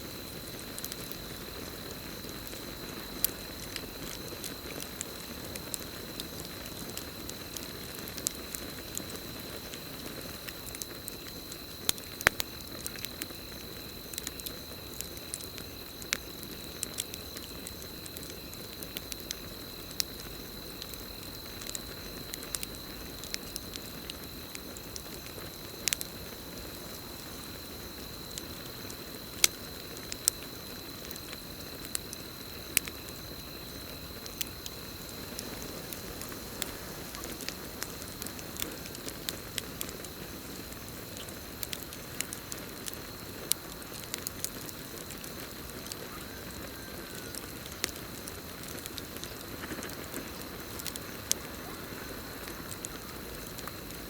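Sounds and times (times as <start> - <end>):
campfire crackling: 0.0 - 54.0
cricket chorus: 0.0 - 54.0.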